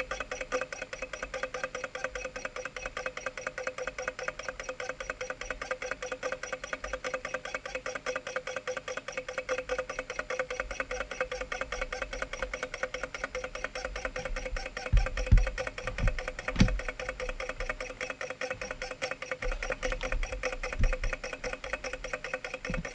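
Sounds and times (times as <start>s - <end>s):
stirling engine ticking: 0.0s - 22.9s.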